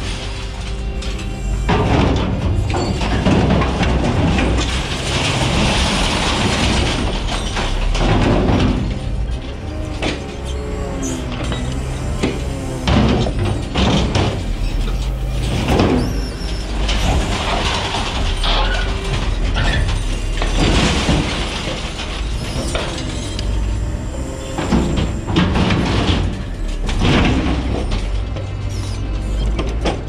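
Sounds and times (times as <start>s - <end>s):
metal scraping and clanking: 0.0s - 30.0s
truck engine under load: 0.0s - 30.0s.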